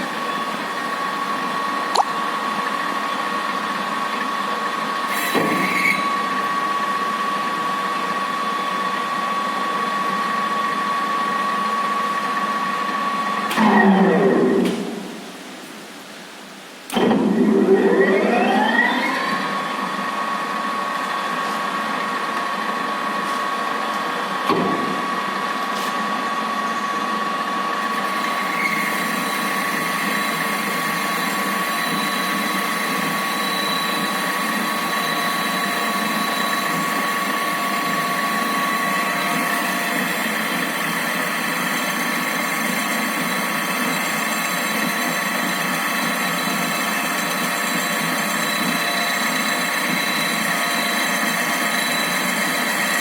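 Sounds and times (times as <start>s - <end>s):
metal lathe whining: 2.4s - 14.6s, 16.9s - 53.0s.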